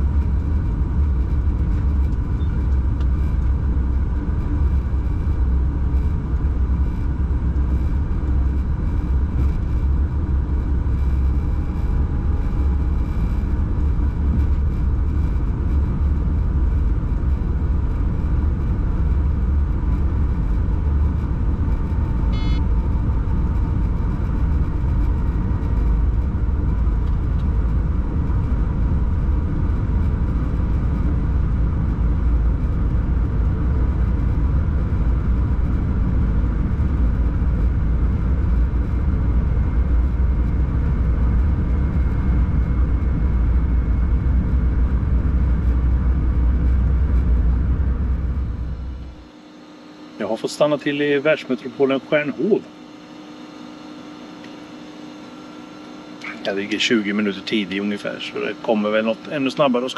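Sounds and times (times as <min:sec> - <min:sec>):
steady whining tones: 0:00.0 - 0:59.9.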